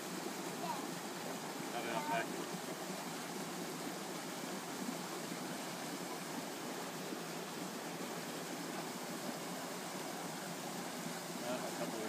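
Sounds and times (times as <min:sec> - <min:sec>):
stream running over stones: 0:00.0 - 0:12.0.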